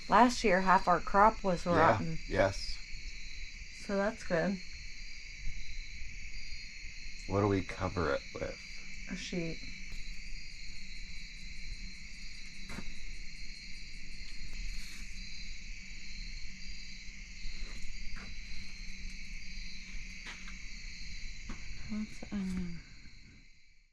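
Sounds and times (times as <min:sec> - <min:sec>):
insect chorus trilling: 0:00.0 - 0:23.9.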